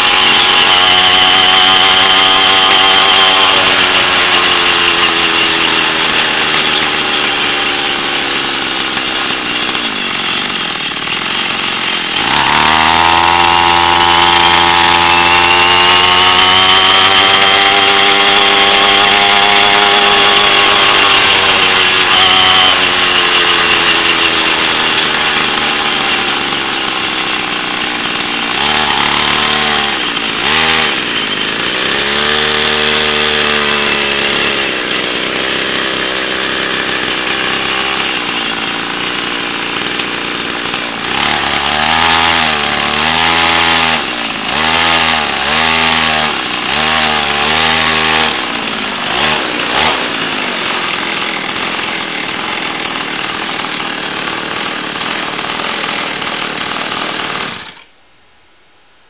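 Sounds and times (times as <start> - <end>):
two-stroke engine buzzing and revving: 0.0 - 57.9.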